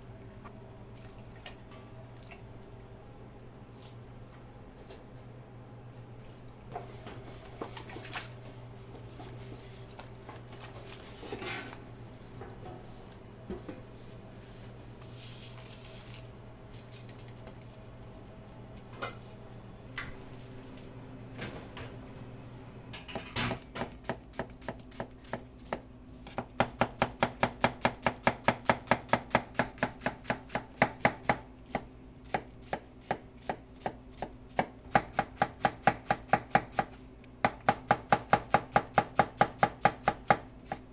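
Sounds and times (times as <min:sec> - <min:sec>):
low kitchen hum: 0:00.0 - 0:40.9.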